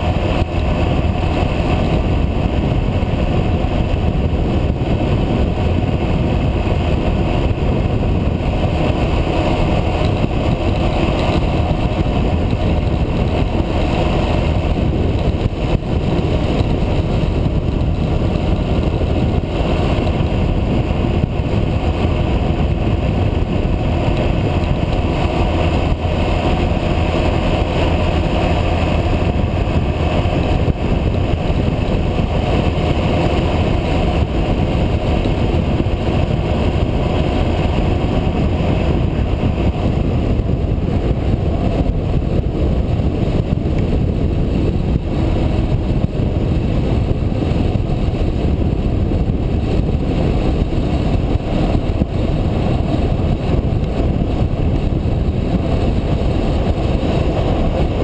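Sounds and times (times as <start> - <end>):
motorcycle engine drone: 0.0 - 58.0
wind rushing on microphone: 0.0 - 58.0.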